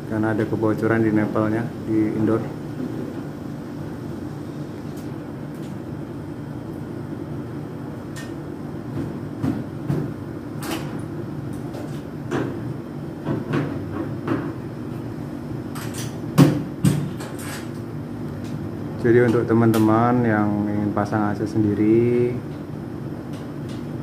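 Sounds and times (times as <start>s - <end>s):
air-conditioner unit humming: 0.0s - 24.0s.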